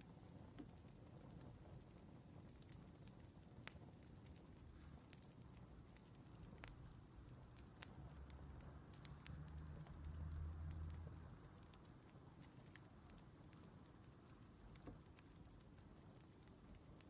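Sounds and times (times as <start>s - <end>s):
soft low hiss: 0.0s - 17.0s
wood fire crackling: 0.0s - 17.0s.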